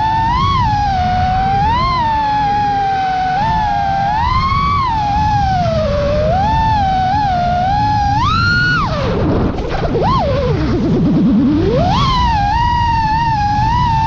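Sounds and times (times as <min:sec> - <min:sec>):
drone motors whining: 0:00.0 - 0:14.0
low rushing noise: 0:00.0 - 0:14.0.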